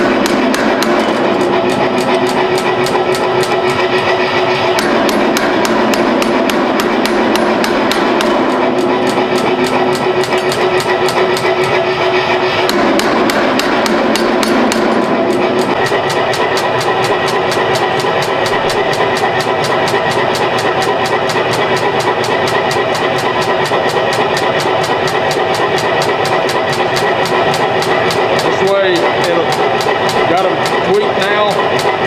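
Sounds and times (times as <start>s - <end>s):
hammer blows on steel: 0.0s - 32.0s.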